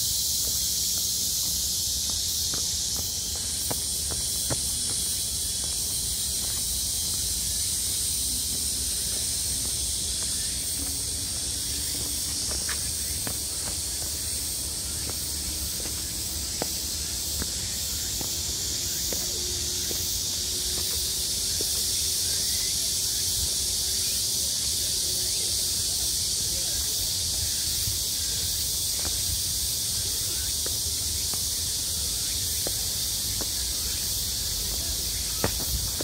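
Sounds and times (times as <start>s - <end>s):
faint footsteps on path: 0.0s - 22.8s, 26.7s - 36.0s
insects chorus: 0.0s - 36.0s.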